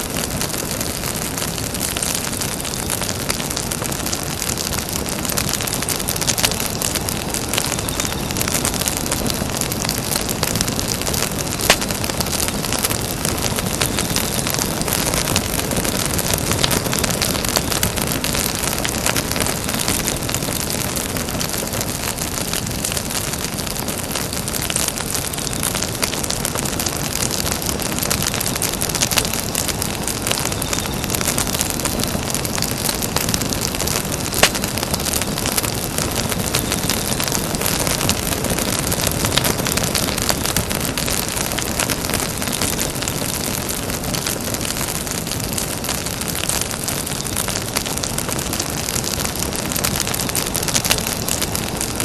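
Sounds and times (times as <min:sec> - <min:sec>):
campfire crackling: 0:00.0 - 0:52.0
fire popping: 0:00.0 - 0:52.0.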